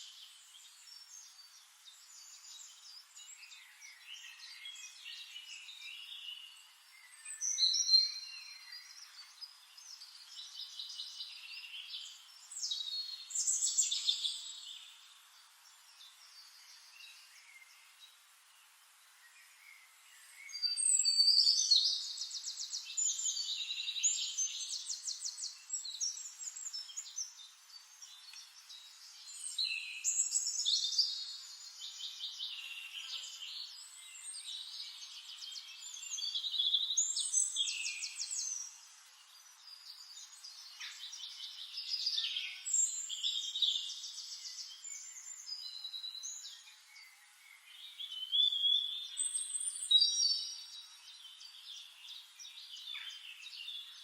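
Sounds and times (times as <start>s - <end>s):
songbird trilling and chirping: 0.1s - 15.2s, 20.2s - 38.8s, 39.6s - 54.0s.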